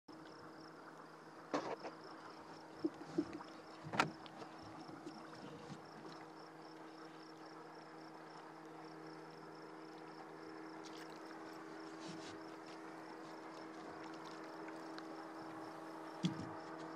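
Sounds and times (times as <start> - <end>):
boat motor humming: 0.1 - 16.9.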